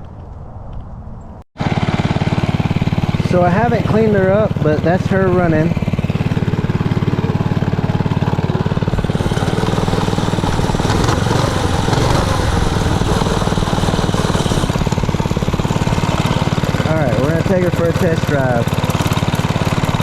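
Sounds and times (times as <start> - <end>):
small engine idling: 1.6 - 20.0.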